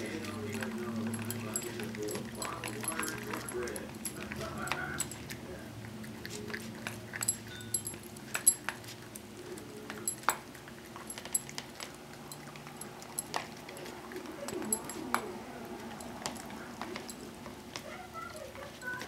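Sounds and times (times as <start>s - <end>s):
collar tags clinking on bowl: 0.0s - 19.0s
puppy eating noises: 0.0s - 19.0s.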